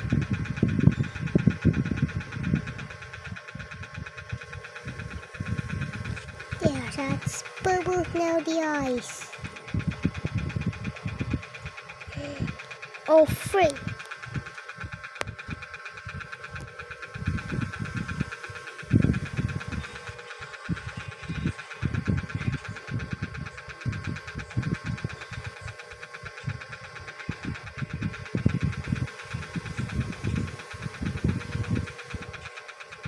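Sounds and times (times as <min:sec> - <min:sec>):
pulsing machine hum: 0:00.0 - 0:33.0.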